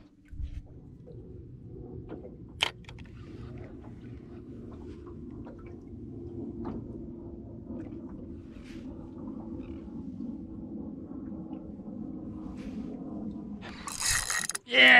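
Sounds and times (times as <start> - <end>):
boat motor humming: 0.0 - 14.6.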